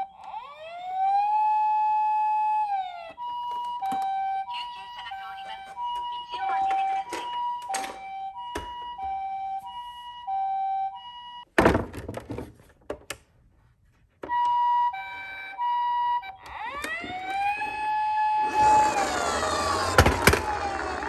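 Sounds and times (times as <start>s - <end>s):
toy ambulance electronic siren: 0.0s - 11.5s, 14.2s - 21.0s.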